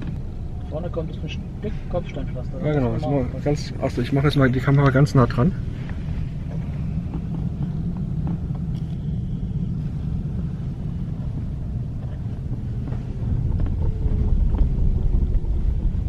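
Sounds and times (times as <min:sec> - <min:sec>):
tyre and road rumble: 0:00.0 - 0:16.0.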